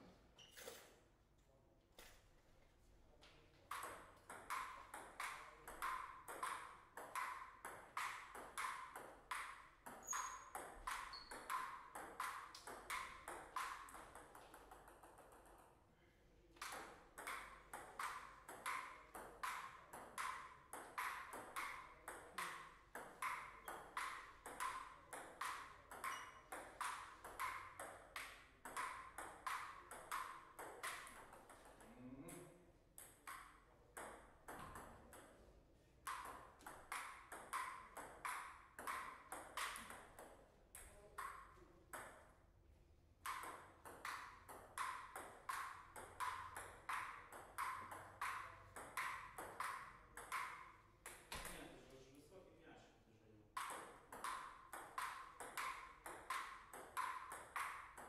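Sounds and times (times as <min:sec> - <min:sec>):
table tennis ball clicks: 0:03.7 - 0:15.7, 0:16.6 - 0:31.8, 0:33.0 - 0:35.4, 0:36.0 - 0:42.2, 0:43.2 - 0:51.6, 0:53.6 - 0:58.0.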